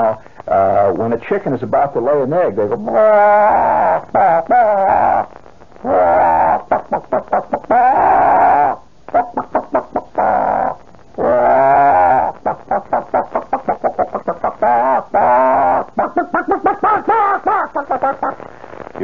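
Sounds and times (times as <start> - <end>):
man imitating hen cackle: 0.0 - 0.9, 2.4 - 18.4.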